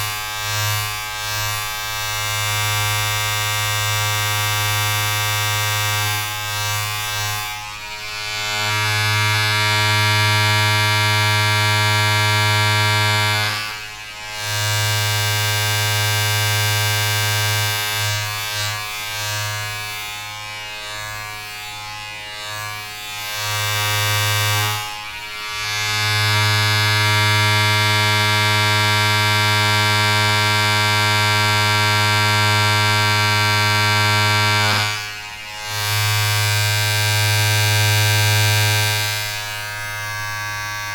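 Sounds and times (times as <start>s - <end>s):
low electric buzz: 0.0s - 40.9s.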